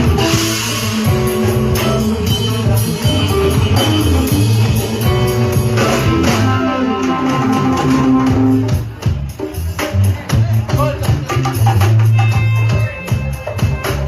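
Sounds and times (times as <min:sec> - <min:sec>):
live band with guitar: 0:00.0 - 0:14.0.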